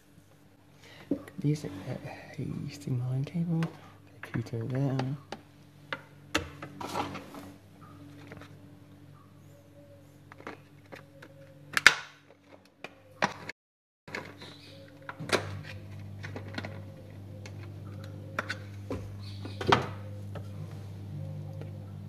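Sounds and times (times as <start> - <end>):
low electrical hum: 0.0 - 13.5, 14.1 - 22.0.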